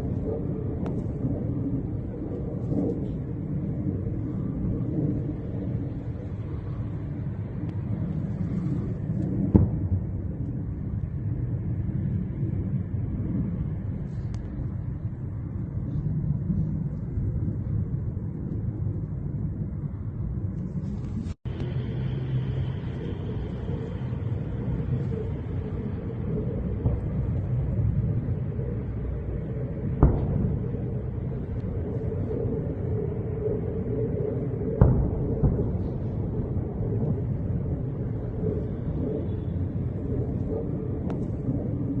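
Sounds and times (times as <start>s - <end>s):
low rumbling noise: 0.0s - 42.0s.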